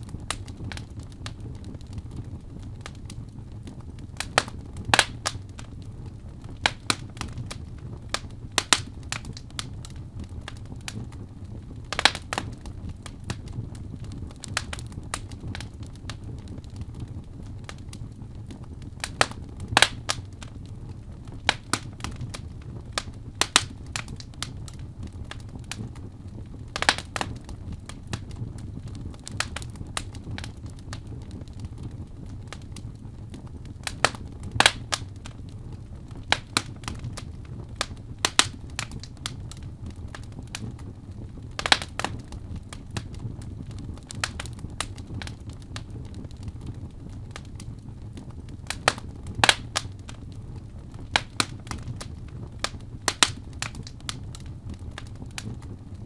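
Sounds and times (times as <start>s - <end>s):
fire crackling: 0.0s - 56.0s
low steady rumble: 0.0s - 56.0s.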